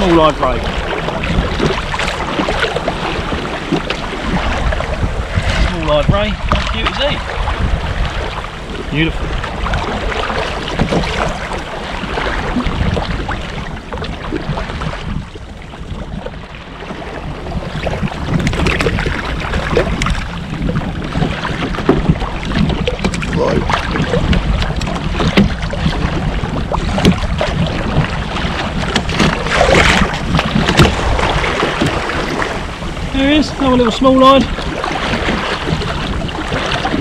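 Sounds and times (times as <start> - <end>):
short knocks and splashes: 0.0 - 15.0, 17.7 - 32.7
water slapping against kayak hull: 0.0 - 37.0
wind buffeting microphone: 0.0 - 37.0.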